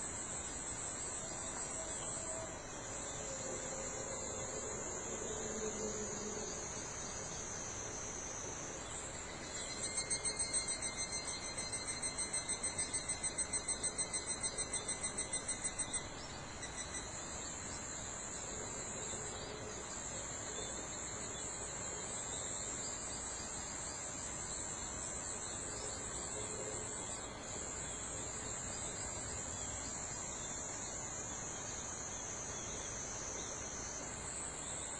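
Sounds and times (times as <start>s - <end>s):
insects trilling: 0.0s - 34.9s
pulsing insect song: 0.0s - 34.9s.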